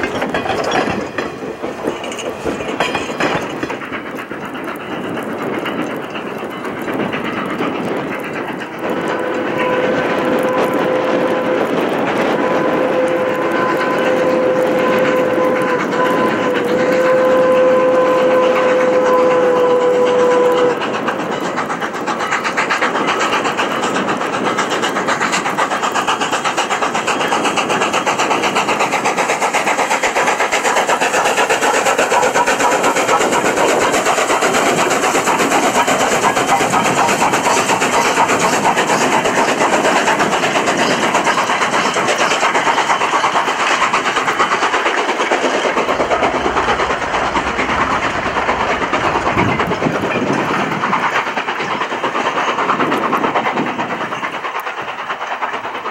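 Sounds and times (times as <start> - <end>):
steam hiss: 0.0 - 55.9
steam locomotive exhaust chuffs: 0.0 - 55.9.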